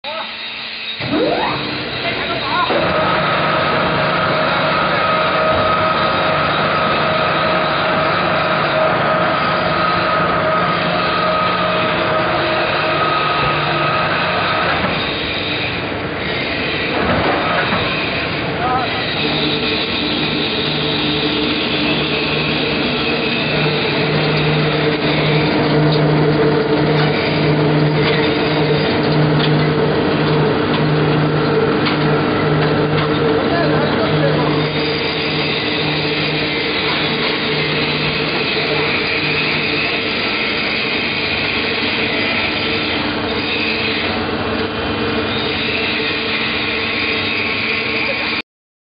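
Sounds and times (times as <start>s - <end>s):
concrete mixer mechanical hum: 0.0s - 48.4s.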